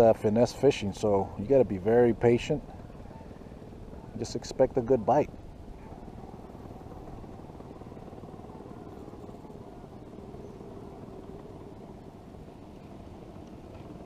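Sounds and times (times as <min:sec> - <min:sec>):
faint hum: 0:00.0 - 0:14.0
low outdoor rumble: 0:00.0 - 0:14.0.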